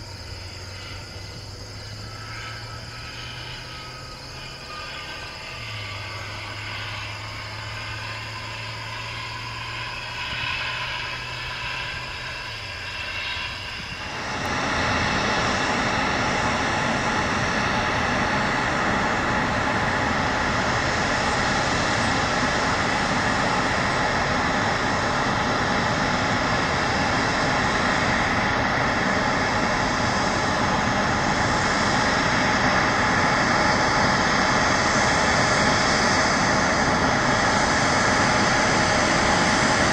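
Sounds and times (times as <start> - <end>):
jet engine drone with whine: 0.0 - 39.9.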